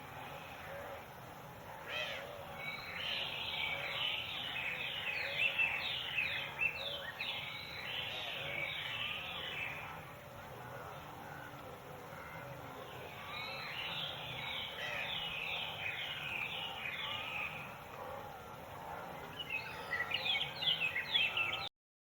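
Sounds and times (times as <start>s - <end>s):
birds low repeated calls: 0.0s - 21.7s.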